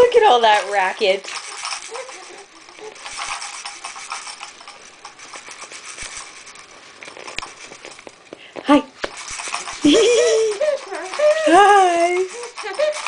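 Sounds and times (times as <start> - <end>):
baby toy rattling: 0.0 - 13.0.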